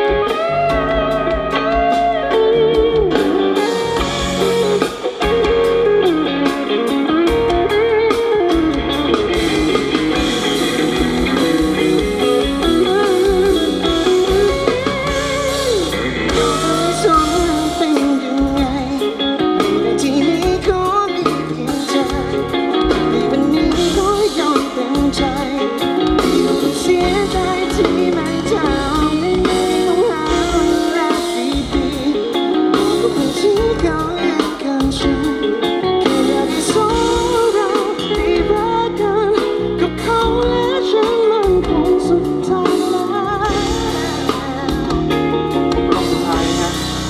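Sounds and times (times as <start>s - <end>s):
bass: 0.0s - 47.0s
drums: 0.0s - 47.0s
guitar: 0.0s - 47.0s
person singing: 0.0s - 47.0s.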